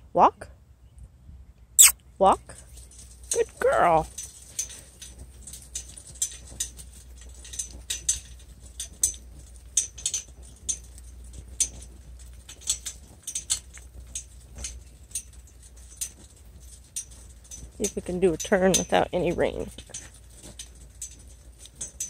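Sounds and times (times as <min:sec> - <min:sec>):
cart rumbling: 0:02.2 - 0:22.0
harness metalwork clinking: 0:02.5 - 0:22.0.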